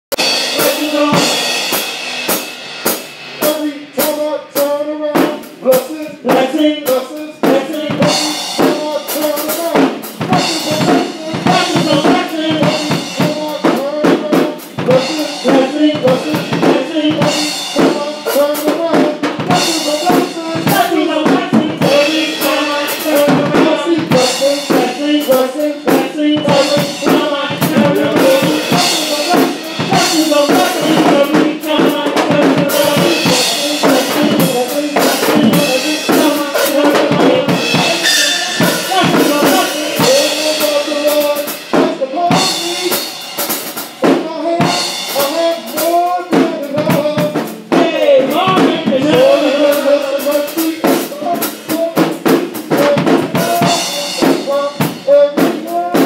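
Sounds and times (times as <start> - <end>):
band music with drum kit: 0.0 - 56.0.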